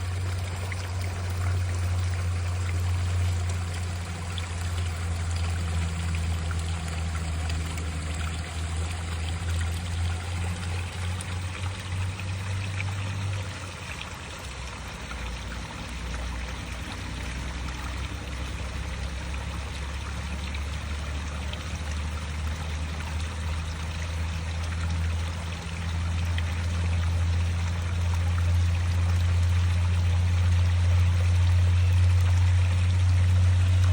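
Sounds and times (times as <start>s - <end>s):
water pouring and splashing: 0.0s - 33.9s.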